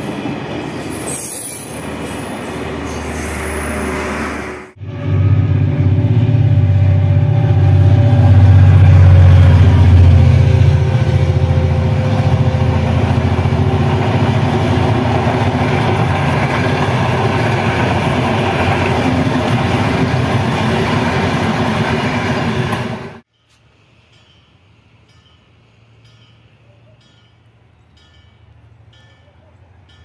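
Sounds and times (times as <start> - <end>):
diesel locomotive engine: 0.0 - 30.0
train wheels running on rails: 5.5 - 30.0.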